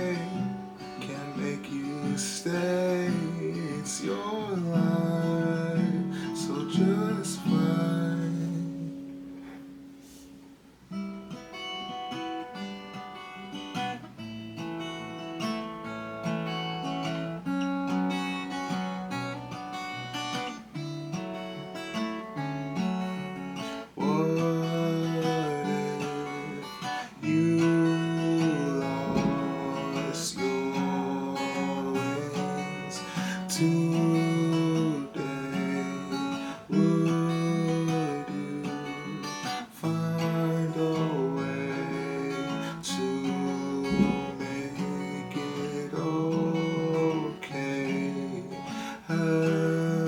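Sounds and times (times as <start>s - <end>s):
acoustic guitar picking: 0.0s - 50.0s.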